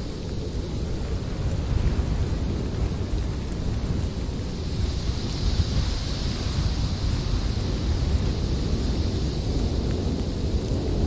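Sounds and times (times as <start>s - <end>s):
howling blizzard wind: 0.0s - 11.0s.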